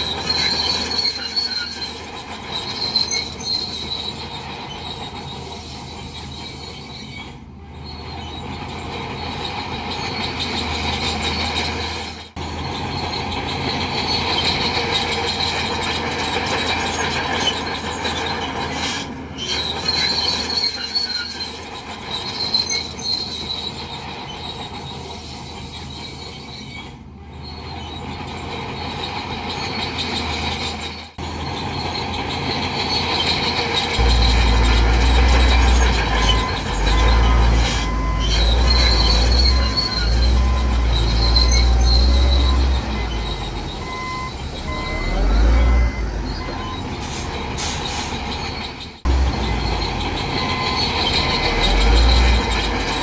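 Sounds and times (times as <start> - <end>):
bulldozer engine drone: 0.0 - 53.0
crawler tracks squealing and grinding: 0.0 - 53.0.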